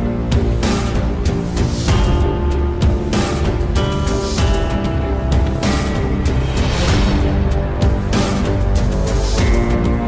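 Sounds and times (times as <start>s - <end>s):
music with heavy driving beat: 0.0s - 10.0s.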